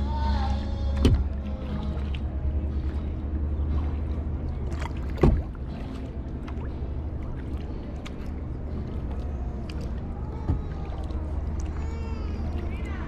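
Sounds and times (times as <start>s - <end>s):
low rumble: 0.0s - 13.0s
paddle splashing in water: 0.4s - 13.0s.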